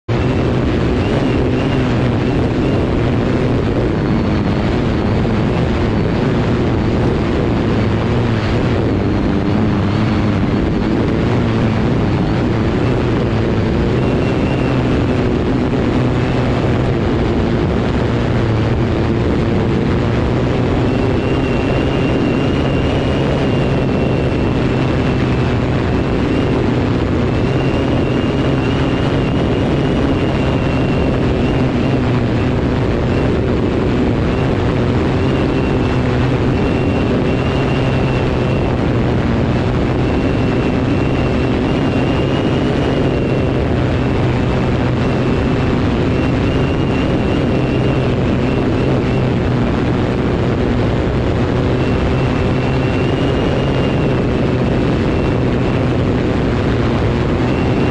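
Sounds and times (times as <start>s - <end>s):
faint high whine: 0.0s - 57.9s
helicopter engine and rotor drone: 0.0s - 57.9s.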